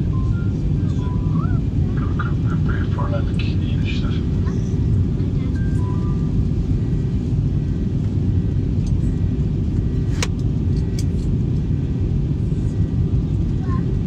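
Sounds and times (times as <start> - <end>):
airliner low rumble: 0.0 - 14.0.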